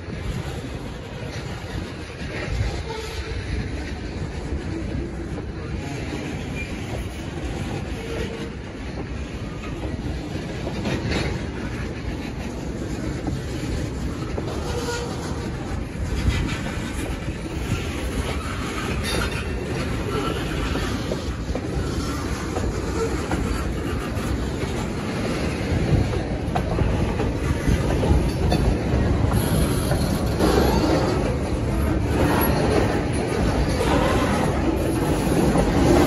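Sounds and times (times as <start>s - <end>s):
steel wheels clacking over rail joints: 0.0s - 36.0s.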